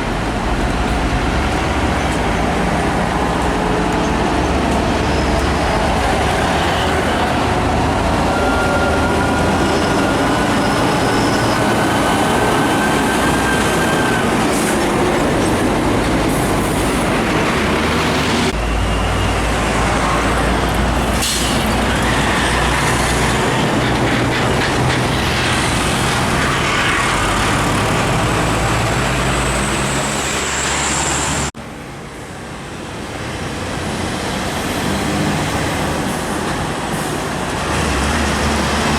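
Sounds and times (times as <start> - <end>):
heavy trucks passing on highway: 0.0 - 38.9.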